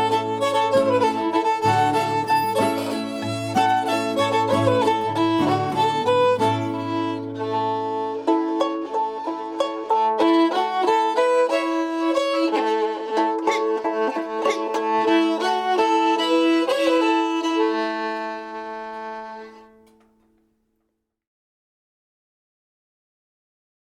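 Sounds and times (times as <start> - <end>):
fiddle and banjo string-band tune: 0.0 - 20.1.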